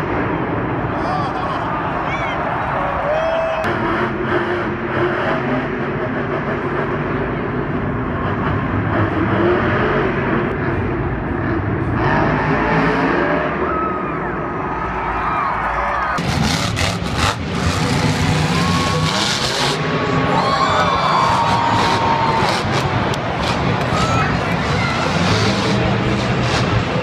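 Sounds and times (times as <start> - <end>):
crowd noise: 0.0 - 27.0
loud truck engines running: 0.0 - 27.0.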